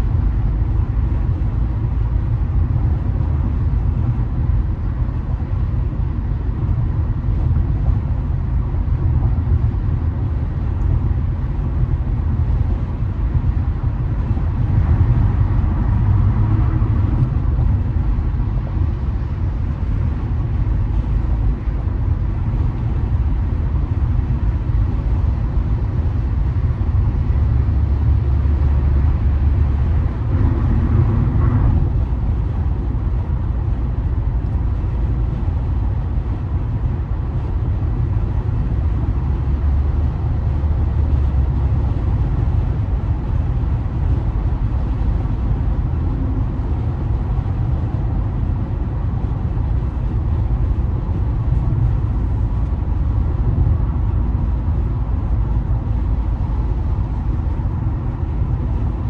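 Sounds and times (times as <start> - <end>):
car driving at speed from inside: 0.0 - 59.0.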